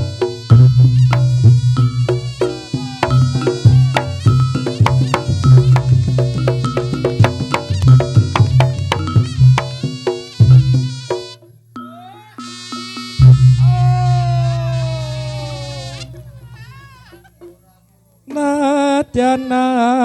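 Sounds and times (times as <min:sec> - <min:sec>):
booming bass beat: 0:00.0 - 0:11.8, 0:13.2 - 0:18.6
quick percussion strikes: 0:00.0 - 0:19.1.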